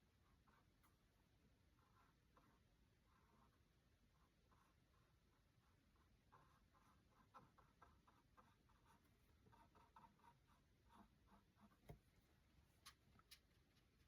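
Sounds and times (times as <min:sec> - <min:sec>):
paintbrush strokes: 0:00.0 - 0:14.0.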